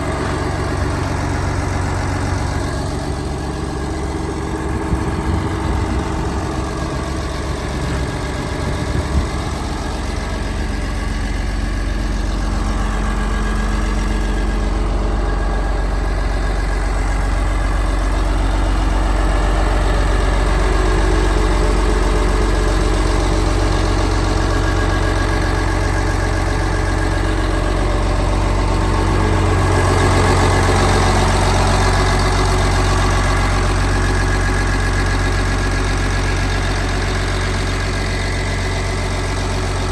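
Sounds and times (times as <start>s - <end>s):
dozer diesel engine running: 0.0s - 39.9s.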